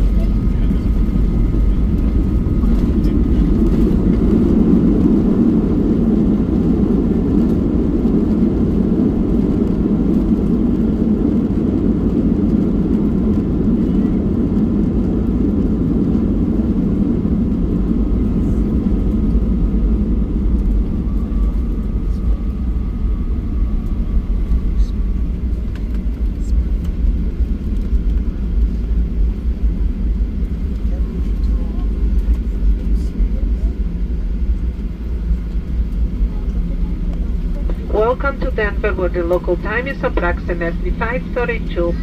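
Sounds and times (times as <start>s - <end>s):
airplane engines in cabin: 0.0s - 42.0s.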